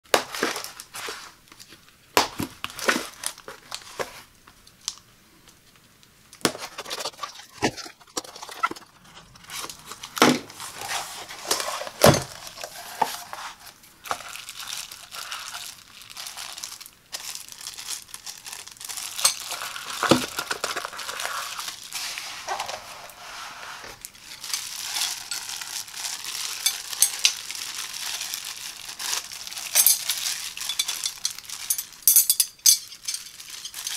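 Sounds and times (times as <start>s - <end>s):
plastic wrapping crinkling: 0.1s - 33.9s.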